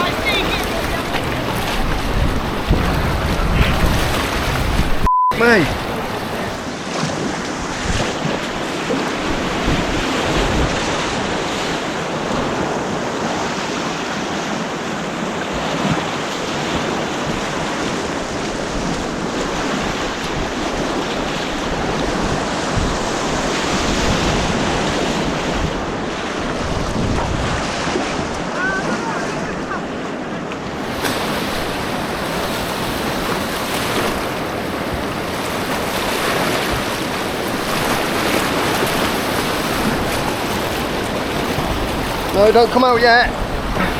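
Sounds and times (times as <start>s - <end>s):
white-water rapids rushing: 0.0s - 43.9s
wind on microphone: 0.0s - 43.9s.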